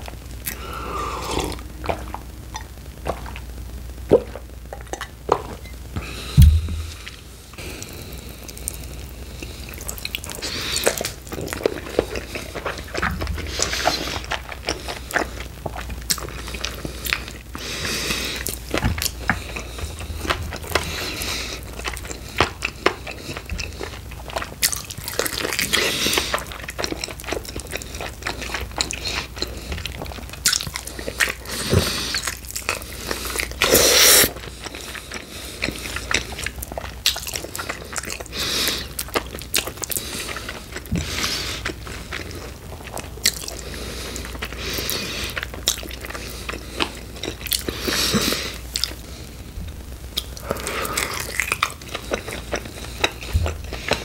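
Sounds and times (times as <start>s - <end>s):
close-miked crunching and chewing: 0.0s - 54.0s.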